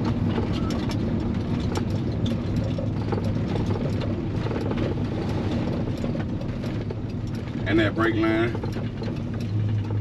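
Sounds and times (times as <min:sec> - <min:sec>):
light rattles and knocks: 0:00.0 - 0:10.0
pickup truck engine running: 0:00.0 - 0:10.0.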